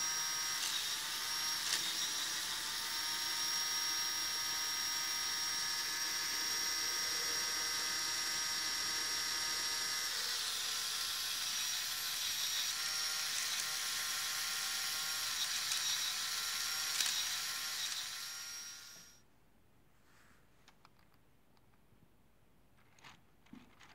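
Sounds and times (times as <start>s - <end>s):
small electric motor whining: 0.0s - 19.2s.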